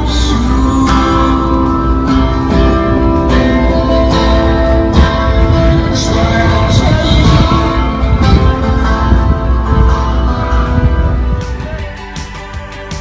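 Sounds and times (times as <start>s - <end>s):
acoustic guitar strumming chords: 0.0s - 13.0s
steady low rumble: 0.0s - 13.0s.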